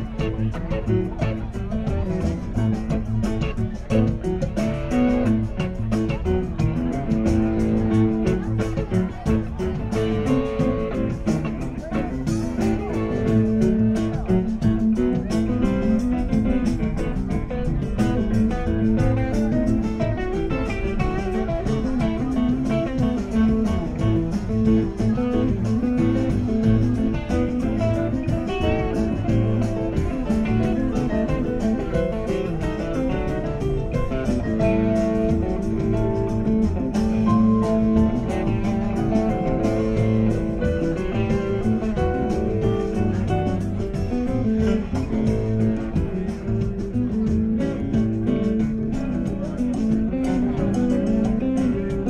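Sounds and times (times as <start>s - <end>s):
electric guitar: 0.0s - 52.0s
live band playing: 0.0s - 52.0s.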